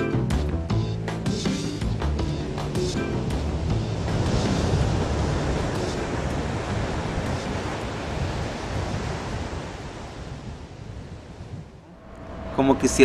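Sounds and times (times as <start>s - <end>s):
steady rushing noise: 2.4s - 13.0s.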